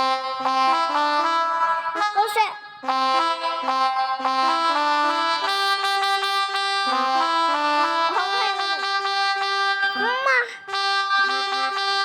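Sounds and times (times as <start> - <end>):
melodica app playing held reedy notes: 0.0 - 12.0.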